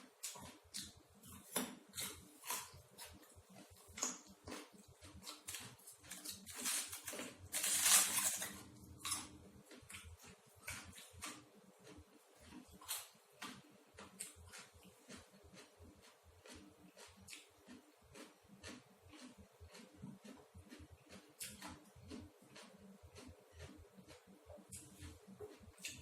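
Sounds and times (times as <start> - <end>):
person chewing crunchy food: 0.0 - 26.0.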